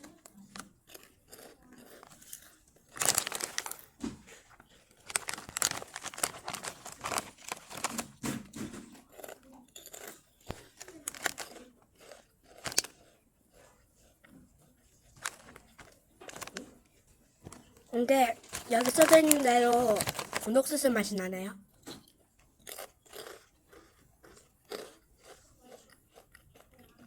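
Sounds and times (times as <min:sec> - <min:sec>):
snack bag crinkling: 0:00.0 - 0:14.2, 0:14.9 - 0:21.2, 0:22.6 - 0:27.0
snacks crunching while chewed: 0:00.0 - 0:20.9, 0:21.9 - 0:27.0.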